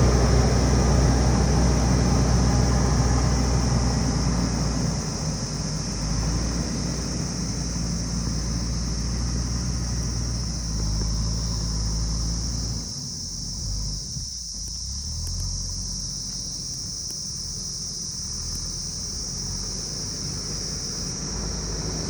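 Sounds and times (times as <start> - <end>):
diesel engine running: 0.0 - 22.0
high-pitched buzz: 0.0 - 22.0.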